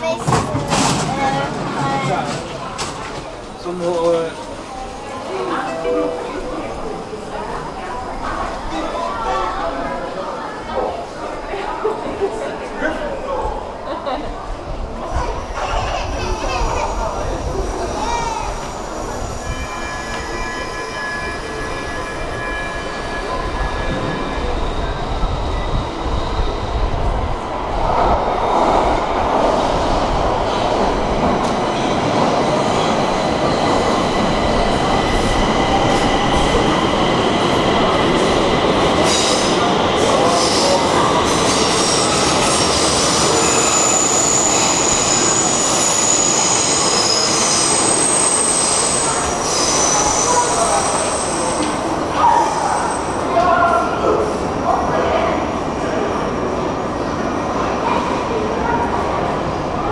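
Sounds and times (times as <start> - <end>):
train rail noise: 0.0 - 59.9.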